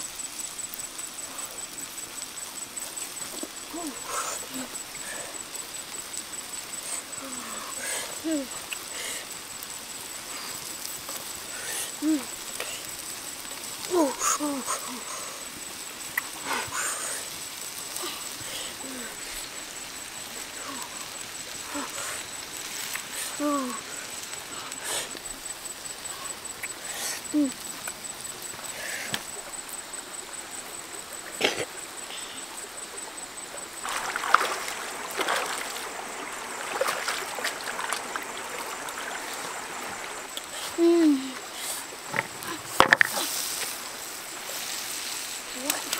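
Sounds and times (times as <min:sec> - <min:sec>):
shrimp sizzling crackles and pops: 0:00.0 - 0:45.9
stream running over rocks: 0:00.0 - 0:45.9.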